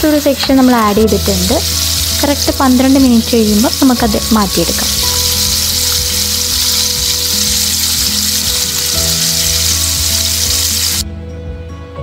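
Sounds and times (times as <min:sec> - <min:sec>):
background music: 0:00.0 - 0:12.0
chicken deep-frying in oil: 0:01.1 - 0:11.0.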